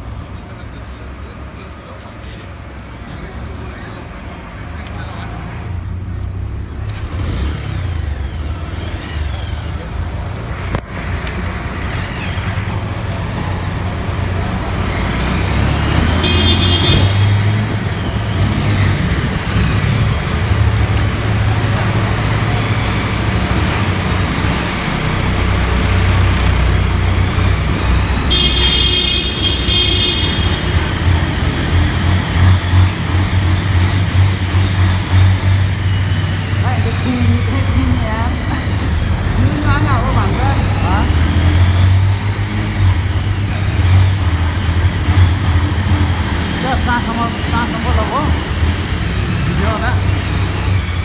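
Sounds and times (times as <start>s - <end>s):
engine rumbling in tunnel: 0.0s - 51.0s.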